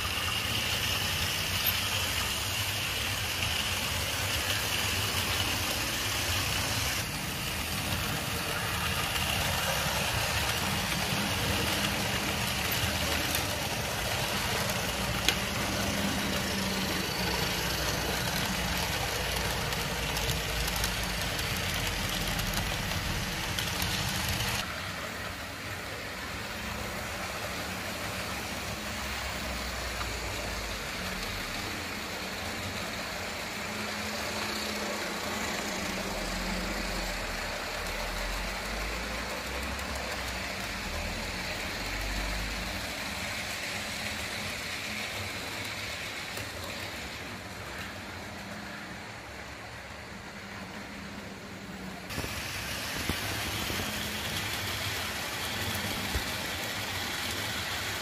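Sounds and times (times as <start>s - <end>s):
model train motors whirring: 0.0s - 58.0s
wheels rolling on track: 0.0s - 58.0s.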